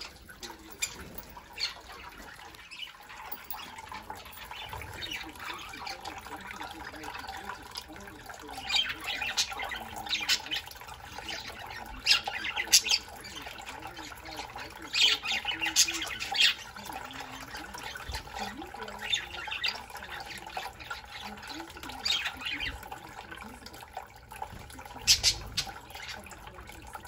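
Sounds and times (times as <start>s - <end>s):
budgerigars squawking and chirping: 0.0s - 23.8s, 24.4s - 26.9s
bird chatter: 0.0s - 27.0s.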